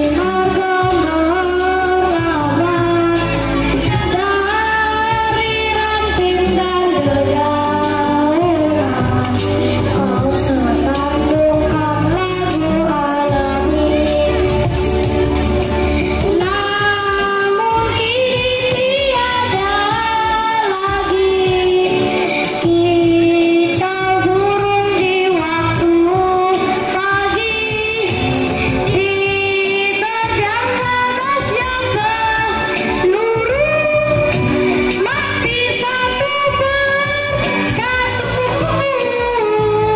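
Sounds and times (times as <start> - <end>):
amplified backing track: 0.0 - 39.9
girls singing pop song: 0.0 - 39.9.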